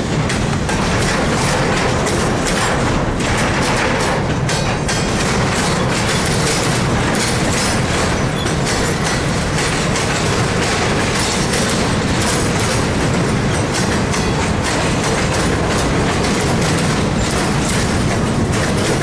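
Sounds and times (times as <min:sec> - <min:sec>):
steel wheels running on rails: 0:00.0 - 0:19.0.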